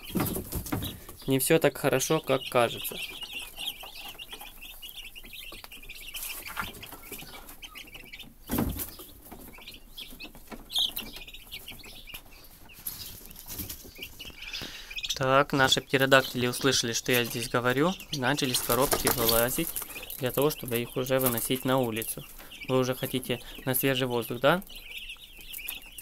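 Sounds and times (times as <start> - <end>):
turkey poults peeping: 0.0 - 26.0.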